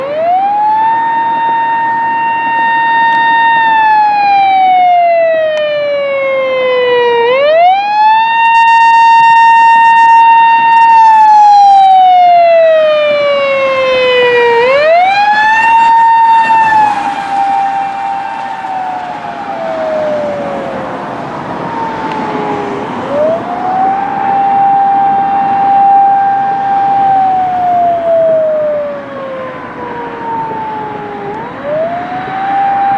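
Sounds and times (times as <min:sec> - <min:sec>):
police siren wailing: 0:00.0 - 0:32.9
vehicle and road noise: 0:00.0 - 0:32.9.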